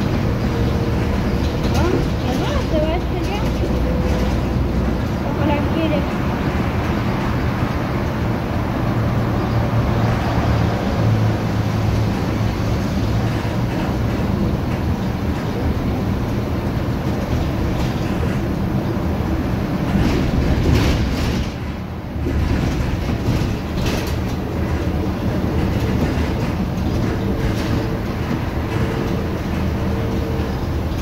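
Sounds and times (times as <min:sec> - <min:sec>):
bus body rattle: 0:00.0 - 0:31.0
bus diesel engine drone: 0:00.0 - 0:31.0.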